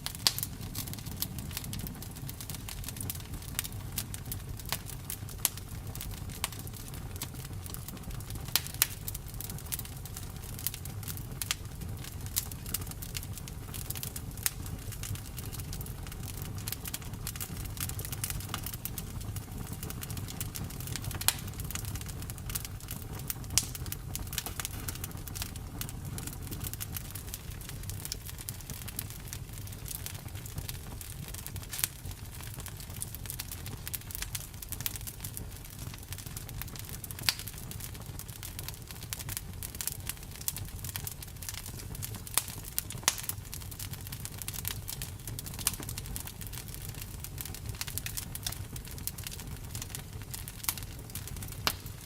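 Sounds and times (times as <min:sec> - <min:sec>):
low rumble of flames: 0:00.0 - 0:52.0
wood crackling and popping: 0:00.0 - 0:52.0.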